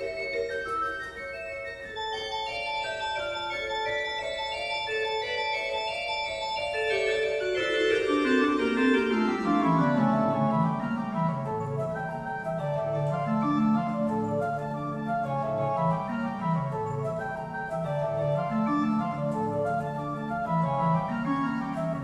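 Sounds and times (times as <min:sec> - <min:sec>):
instrumental background music: 0:00.0 - 0:22.0.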